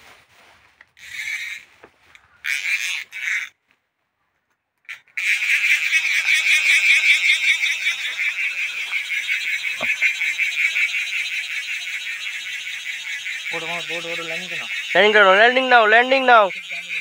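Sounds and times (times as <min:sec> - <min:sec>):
high-pitched trilling animal chorus: 0:01.0 - 0:01.7, 0:02.4 - 0:03.5, 0:04.9 - 0:17.0.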